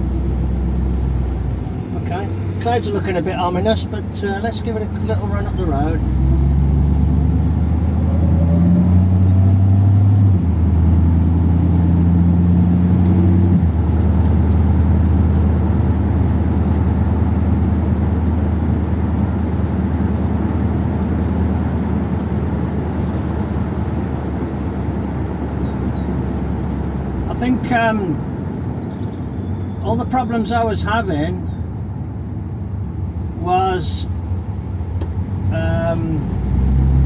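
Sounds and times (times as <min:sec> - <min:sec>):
car engine shifting gears: 0:00.0 - 0:30.2, 0:30.8 - 0:37.0.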